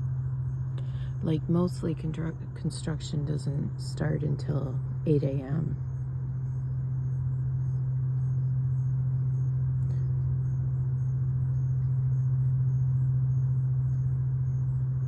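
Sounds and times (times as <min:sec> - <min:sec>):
low-pitched hum with rumble: 0:00.0 - 0:15.0.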